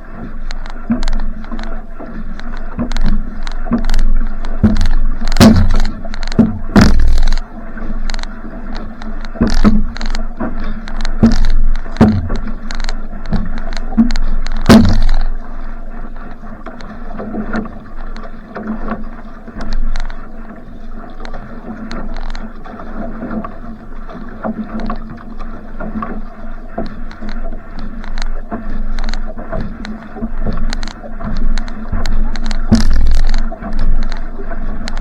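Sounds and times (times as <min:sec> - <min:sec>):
paddle strokes splashing water: 0:00.0 - 0:35.0
water rushing past hull: 0:00.0 - 0:35.0.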